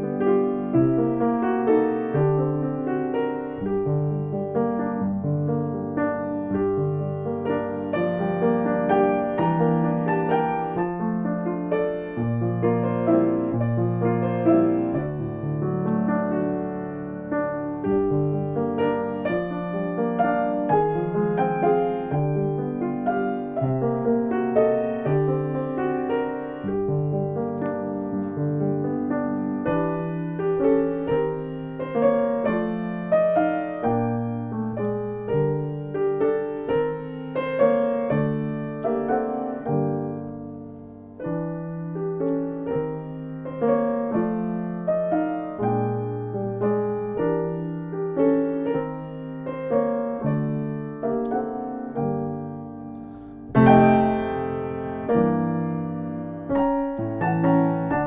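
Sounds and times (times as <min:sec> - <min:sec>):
slow gentle piano piece: 0:00.0 - 0:58.0.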